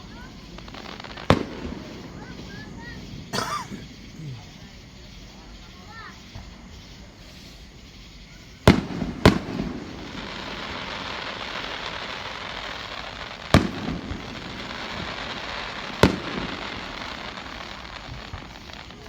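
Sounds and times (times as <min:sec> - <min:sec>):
fireworks bangs with rumbling echo: 0:00.0 - 0:19.0
steady hiss: 0:00.0 - 0:19.0.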